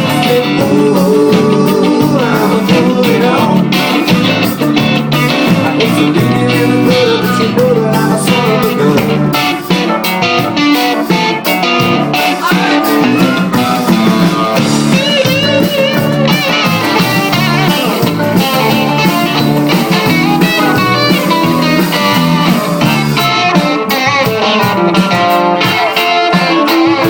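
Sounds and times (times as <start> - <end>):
live band with guitar: 0.0 - 27.0.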